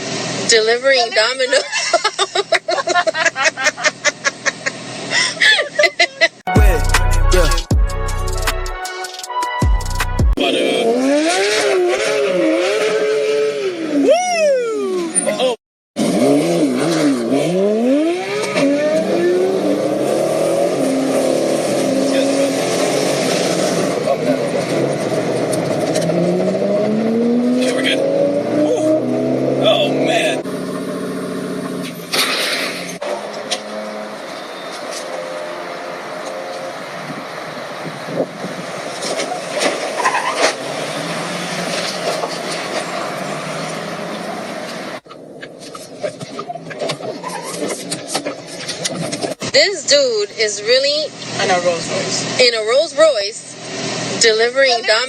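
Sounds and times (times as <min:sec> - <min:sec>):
steady road noise: 0:00.0 - 0:09.1, 0:09.7 - 0:55.0
car engine revving: 0:10.2 - 0:14.2, 0:14.8 - 0:55.0.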